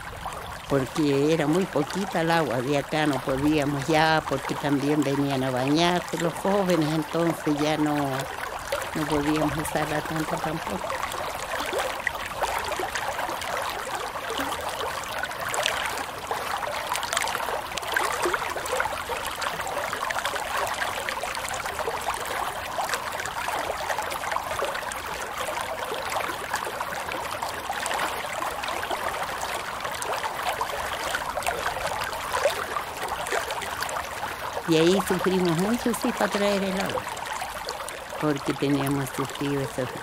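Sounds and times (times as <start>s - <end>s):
water trickling: 0.0s - 40.0s.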